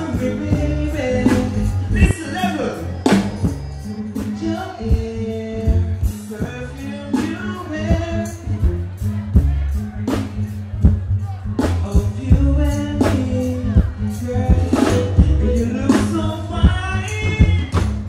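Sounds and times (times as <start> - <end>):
man singing into a microphone: 0.0 - 17.9
backing track with heavy bass: 0.0 - 18.0.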